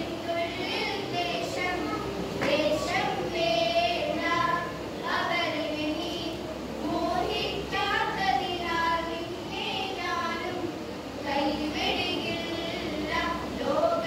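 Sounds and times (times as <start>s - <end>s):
girls singing together: 0.0s - 14.0s.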